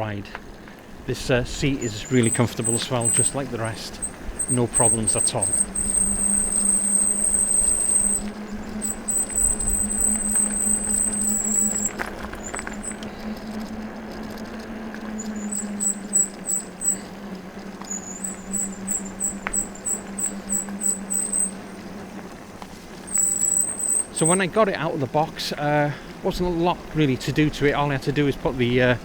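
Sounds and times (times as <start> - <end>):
electric bike hum: 0.0 - 29.0
wind and rolling noise: 0.0 - 29.0
high squeal chirping: 1.0 - 25.1.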